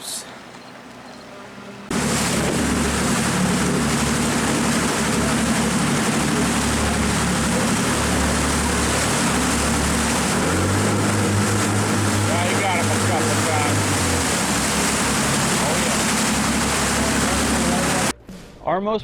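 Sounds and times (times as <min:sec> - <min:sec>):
boat engine drone: 0:00.0 - 0:18.1
rushing water: 0:00.0 - 0:18.1
wind buffeting microphone: 0:01.9 - 0:18.1.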